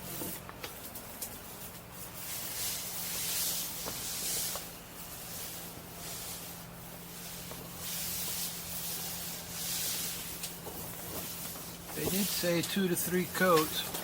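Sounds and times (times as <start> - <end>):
roller wet sticky hiss: 0.0 - 13.9
faint steady hum: 0.0 - 14.0.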